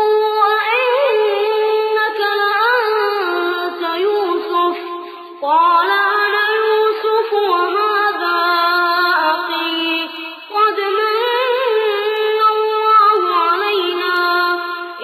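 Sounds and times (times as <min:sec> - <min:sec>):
person reciting melodically: 0:00.0 - 0:15.0.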